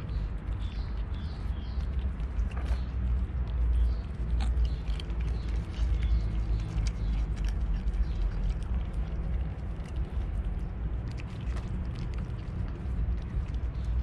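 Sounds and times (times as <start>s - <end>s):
cats chewing: 0.0s - 14.0s
steady low rumble: 0.0s - 14.0s.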